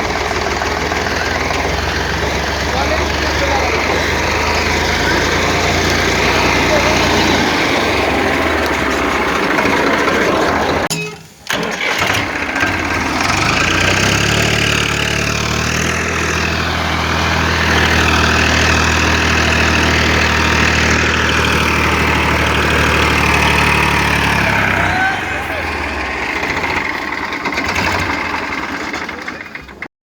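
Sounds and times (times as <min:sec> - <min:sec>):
vehicle engine idling: 0:00.0 - 0:10.9, 0:11.5 - 0:29.9.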